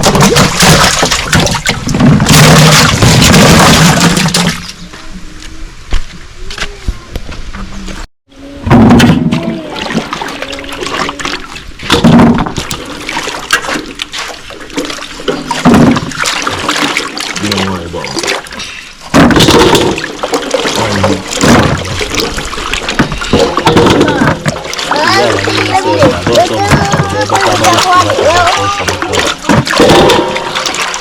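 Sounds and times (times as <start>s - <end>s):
water splashing and pouring: 0.0s - 4.8s, 8.4s - 31.0s.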